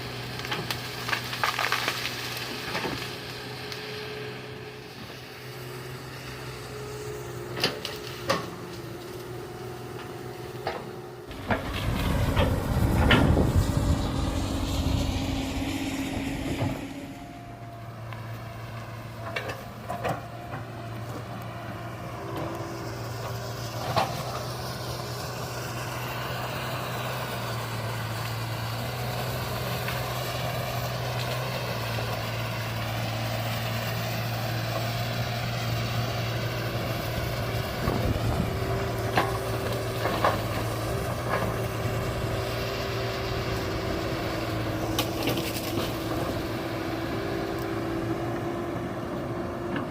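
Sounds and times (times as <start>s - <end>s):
excavator engine running: 0.0s - 49.9s.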